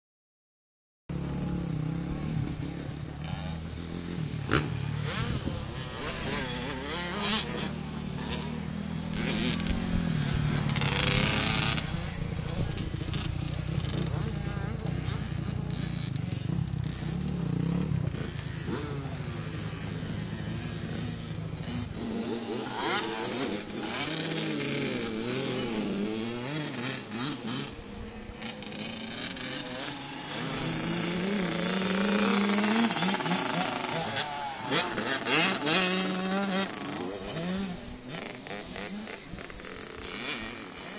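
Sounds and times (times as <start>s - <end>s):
buzzing engine revving: 1.1s - 40.9s
dirt bike engine idling: 1.1s - 40.9s.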